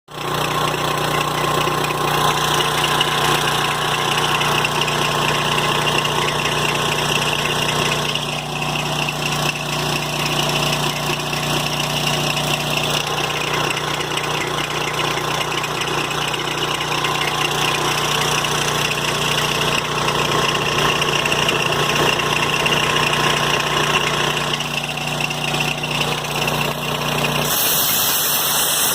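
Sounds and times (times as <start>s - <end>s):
compressor pump clatter: 0.1s - 28.9s
electric motor humming: 0.2s - 28.9s.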